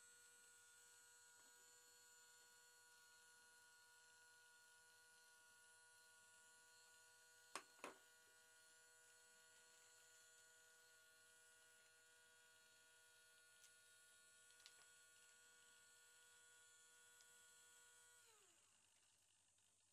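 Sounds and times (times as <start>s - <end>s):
small electric motor hum: 0.0s - 19.9s.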